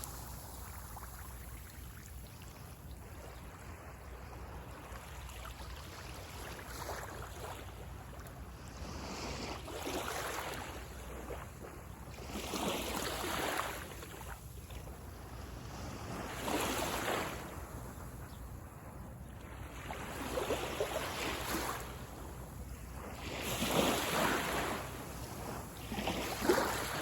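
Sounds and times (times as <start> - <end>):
small waves breaking on sand: 0.0 - 27.0
wind rumble on microphone: 0.0 - 27.0.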